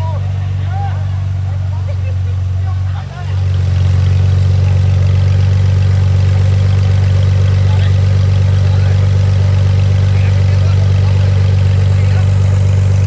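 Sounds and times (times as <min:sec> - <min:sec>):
off-road vehicle engine idling: 0:00.0 - 0:13.0.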